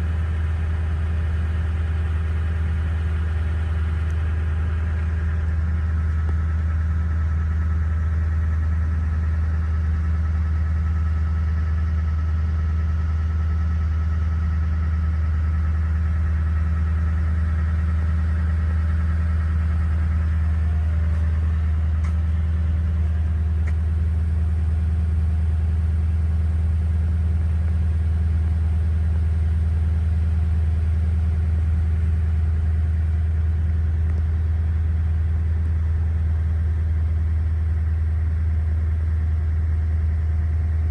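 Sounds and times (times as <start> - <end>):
car engine humming: 0.0 - 40.9.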